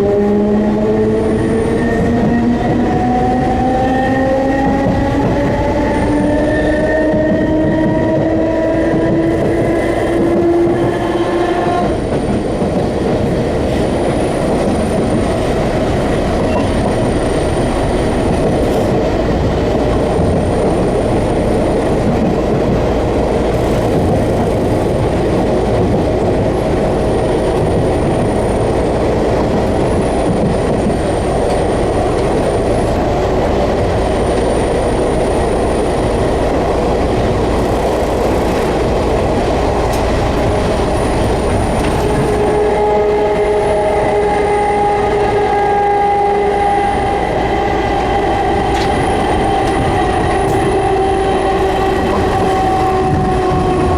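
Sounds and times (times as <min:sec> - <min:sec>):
electric train whine: 0:00.0 - 0:53.9
train wheels on track: 0:00.0 - 0:53.9.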